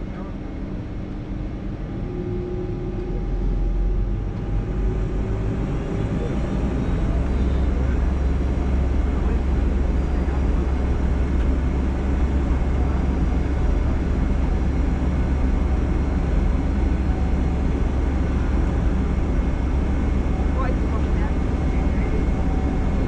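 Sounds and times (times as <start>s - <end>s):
aircraft cabin rumble and hiss: 0.0s - 23.0s.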